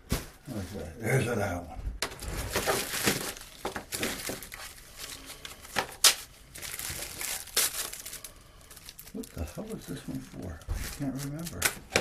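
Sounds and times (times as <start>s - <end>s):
paper and plastic crinkling: 2.0s - 12.0s.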